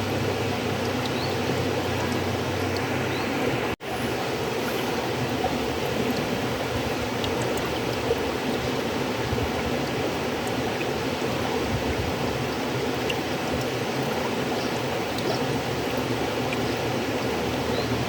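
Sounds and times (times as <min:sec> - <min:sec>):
faint water splashes and drips: 0:00.0 - 0:18.0
river water flowing: 0:00.0 - 0:18.0.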